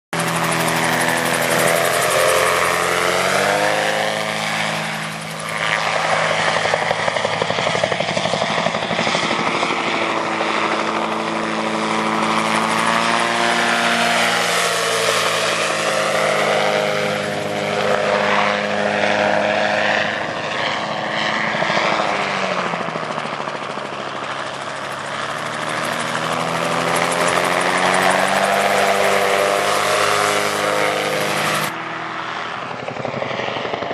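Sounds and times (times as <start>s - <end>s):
gyroplane engine and propeller: 0.2s - 33.9s.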